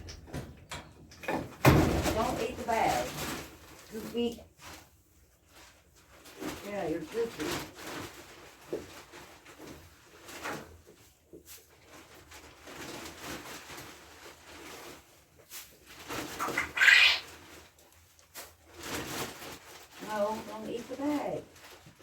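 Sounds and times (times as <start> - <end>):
plastic bag rustling: 1.7 - 22.0.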